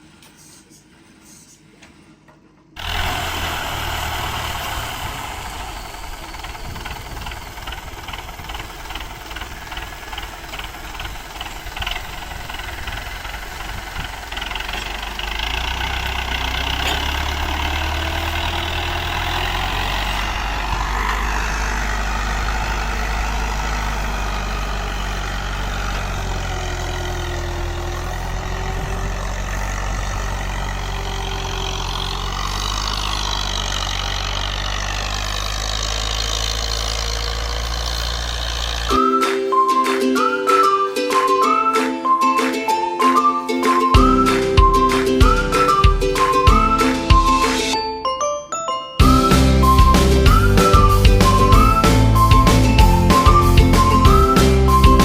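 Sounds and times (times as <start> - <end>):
engine drone: 2.8 - 47.8, 49.0 - 55.0.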